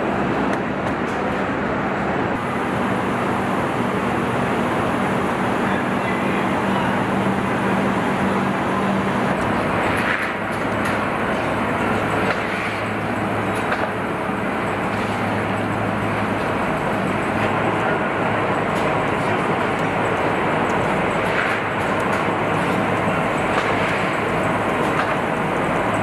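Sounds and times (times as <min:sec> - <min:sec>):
assembly line mechanical noise: 0:02.4 - 0:26.0.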